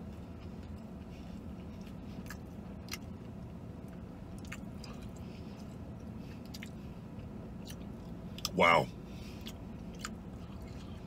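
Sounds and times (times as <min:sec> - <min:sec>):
man chewing crunchy food: 0:00.0 - 0:08.5, 0:09.2 - 0:11.0
steady low hum: 0:00.0 - 0:11.0.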